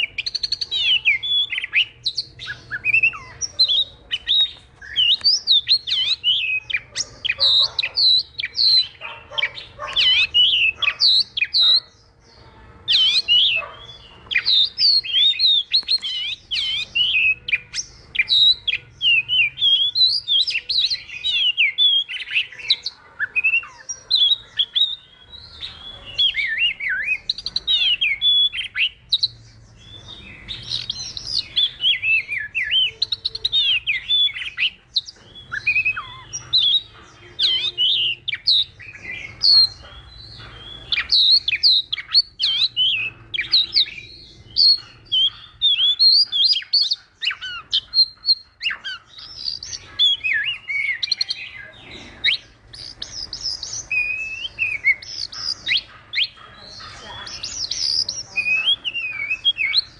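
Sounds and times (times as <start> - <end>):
bird singing varied whistles: 0.0 - 11.9, 12.9 - 25.1, 30.5 - 56.4.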